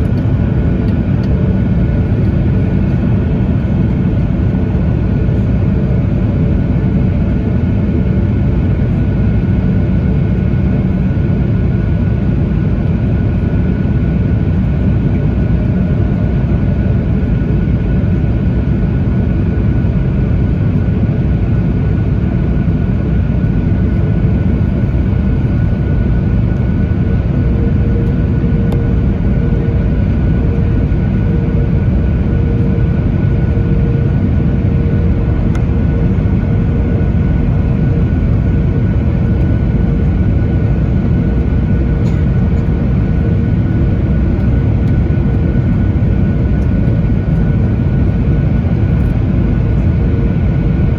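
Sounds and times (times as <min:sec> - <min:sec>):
jet engine and airflow rumble: 0:00.0 - 0:50.9.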